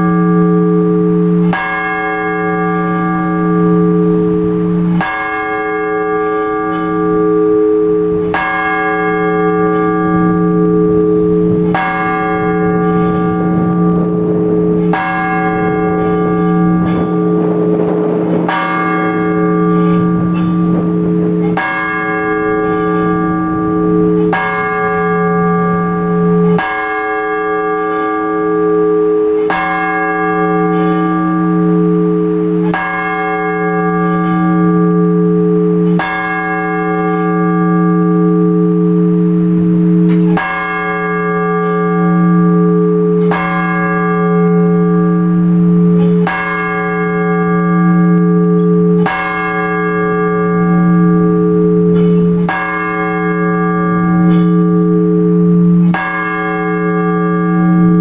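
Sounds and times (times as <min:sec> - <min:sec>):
large church bell ringing: 0:00.0 - 0:58.0.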